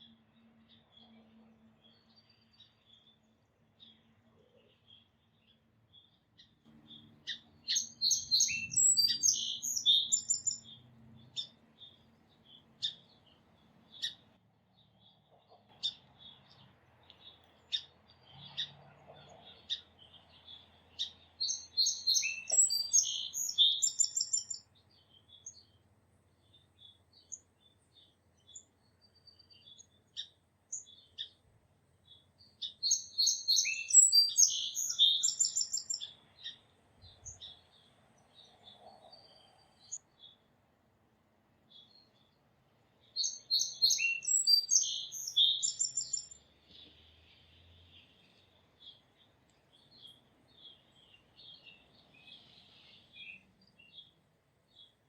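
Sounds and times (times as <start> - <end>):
bird chirps: 0.0 - 31.4, 32.0 - 40.5, 41.7 - 55.0
songbird singing: 0.0 - 55.0.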